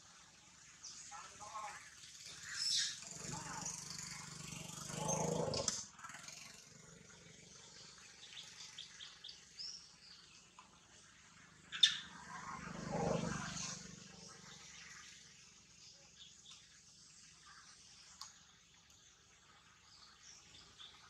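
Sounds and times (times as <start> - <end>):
forest ambience: 0.0 - 21.0
birds chirping: 0.4 - 21.0.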